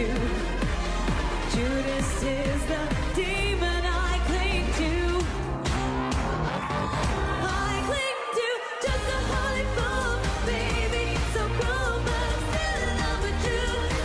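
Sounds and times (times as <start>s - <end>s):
woman singing: 0.0s - 5.8s, 7.0s - 14.0s
electronic dance-pop track: 0.0s - 14.0s.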